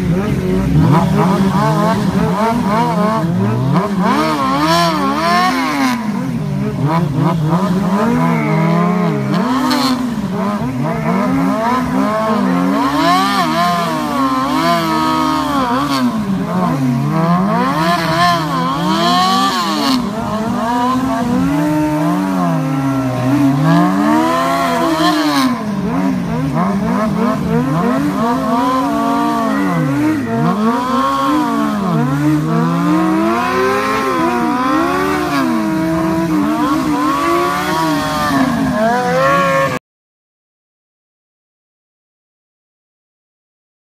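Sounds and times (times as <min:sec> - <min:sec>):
motorcycle engines revving: 0:00.0 - 0:39.8.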